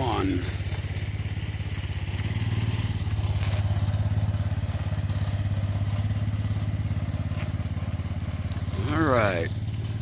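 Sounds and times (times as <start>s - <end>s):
engine running with fast throb: 0.0s - 10.0s.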